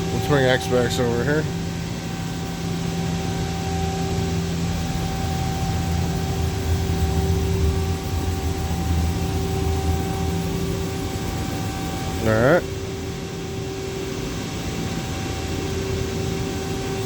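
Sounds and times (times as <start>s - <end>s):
low machine rumble: 0.0s - 17.0s
machine humming with tones: 0.0s - 17.0s.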